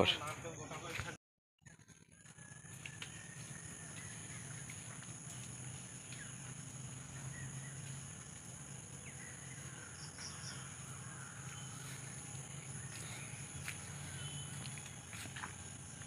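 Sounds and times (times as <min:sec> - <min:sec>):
low hum: 0:01.7 - 0:16.0
high insect drone: 0:02.4 - 0:16.0
bird calls: 0:02.9 - 0:15.9.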